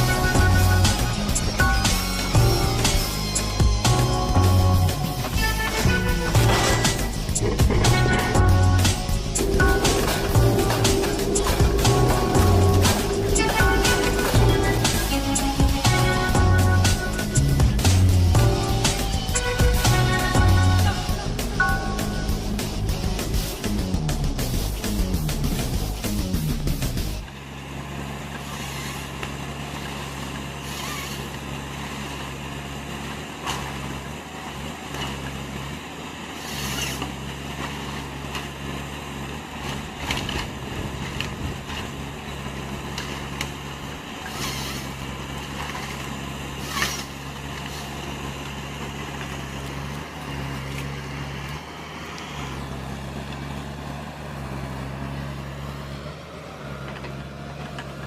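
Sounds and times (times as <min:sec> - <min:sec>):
heavy machine engine running: 0:00.0 - 0:58.0.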